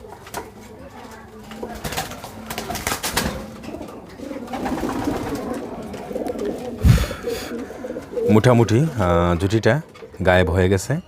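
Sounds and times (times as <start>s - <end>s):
pigeons cooing: 0.0s - 10.4s.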